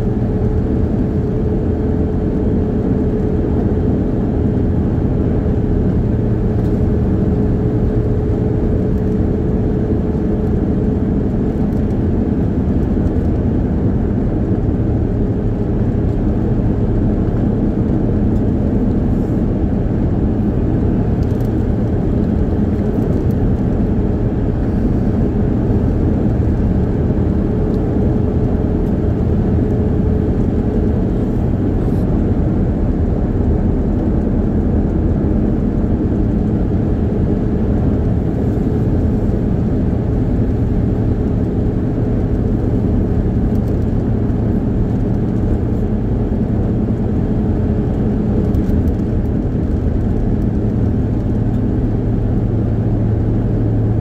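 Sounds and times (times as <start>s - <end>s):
car engine and tyre road noise: 0.0s - 54.0s.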